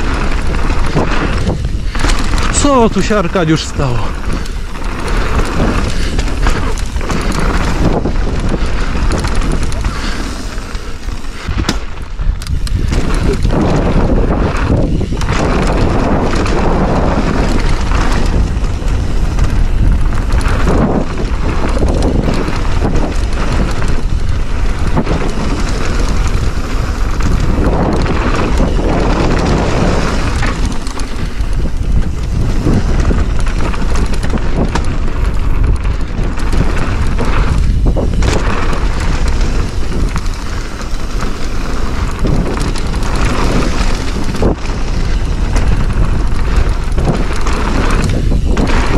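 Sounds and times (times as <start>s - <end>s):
mountain bike rumbling and rattling: 0.0s - 48.9s
wind on microphone: 0.0s - 48.9s
bike knocking over bumps: 4.2s - 48.9s.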